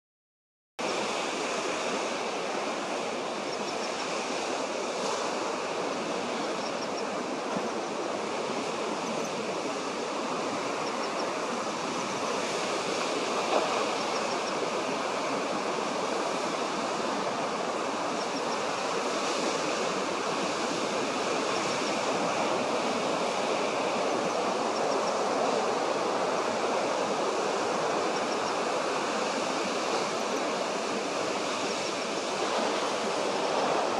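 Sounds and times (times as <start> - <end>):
steady rushing noise: 0.8 - 33.9.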